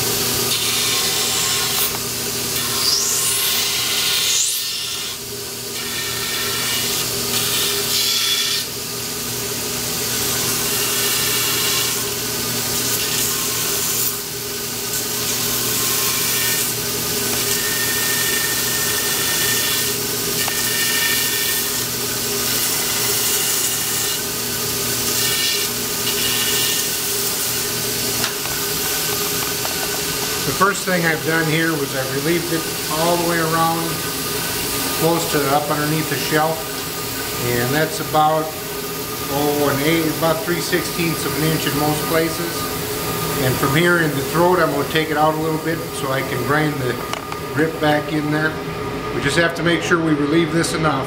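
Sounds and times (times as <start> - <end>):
power grinder grinding wood: 0.0 - 9.3, 10.0 - 48.5.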